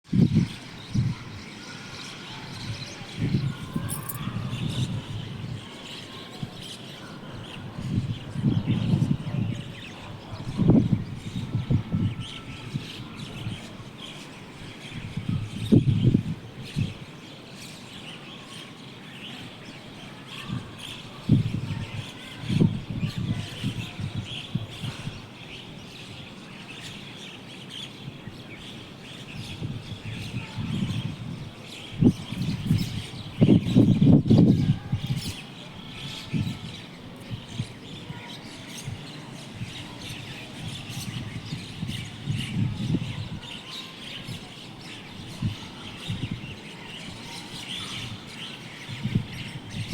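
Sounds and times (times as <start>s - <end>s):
birds chirping chorus: 0.1s - 49.9s.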